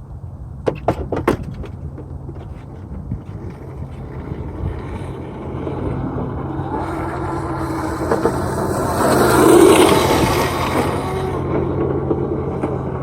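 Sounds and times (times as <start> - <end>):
vehicle motor humming: 1.7 - 13.0.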